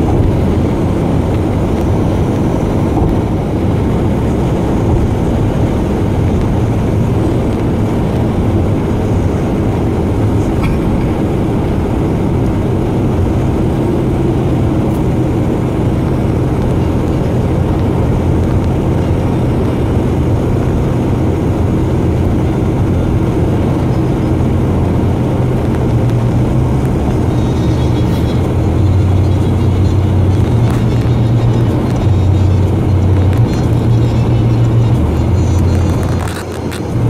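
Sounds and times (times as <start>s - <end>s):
low engine hum: 0.0s - 37.0s
road and tyre noise: 0.0s - 37.0s.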